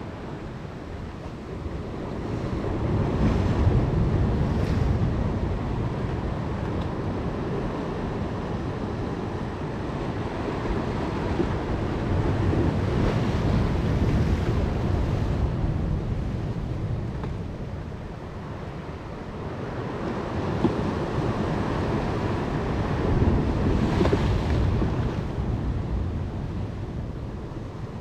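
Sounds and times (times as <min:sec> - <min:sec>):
ocean waves against rocks: 0:00.0 - 0:28.0
wind buffeting microphone: 0:00.0 - 0:28.0.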